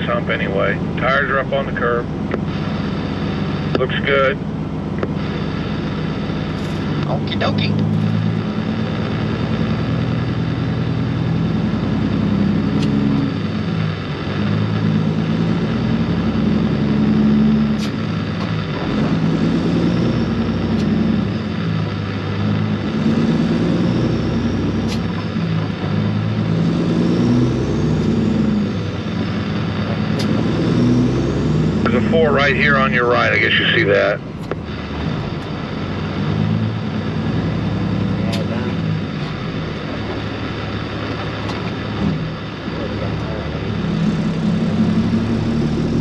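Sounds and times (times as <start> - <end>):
diesel truck engine pulling: 0.0 - 46.0.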